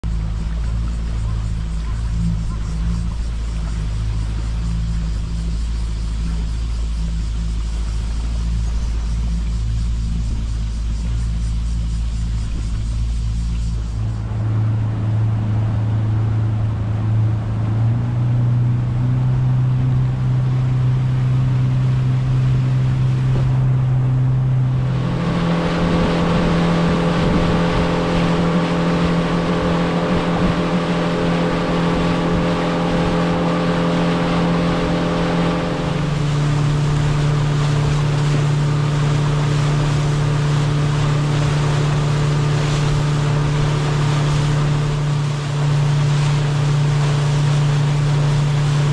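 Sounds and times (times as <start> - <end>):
boat engine humming: 0.0 - 48.9
water rushing from boat wake: 0.0 - 48.9.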